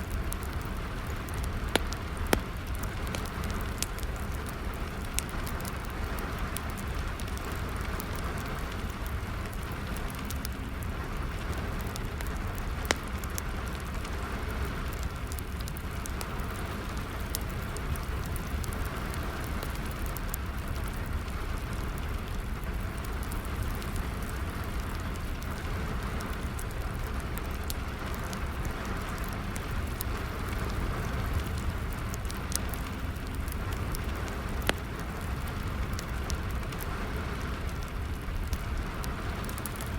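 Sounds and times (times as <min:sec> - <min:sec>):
steady rain falling: 0:00.0 - 0:39.9
wood fire crackling and popping: 0:00.0 - 0:39.9.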